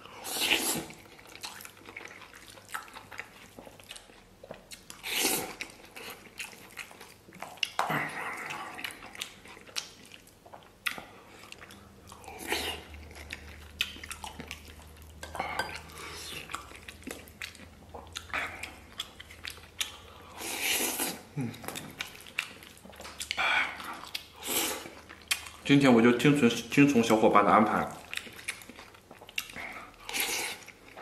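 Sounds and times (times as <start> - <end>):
man chewing: 0.0 - 25.7, 27.8 - 31.0.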